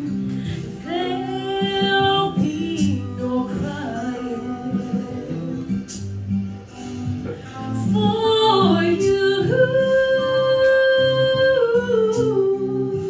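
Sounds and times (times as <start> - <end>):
girl singing into microphone: 0.0 - 6.1, 7.3 - 13.0
acoustic guitar: 0.0 - 13.0.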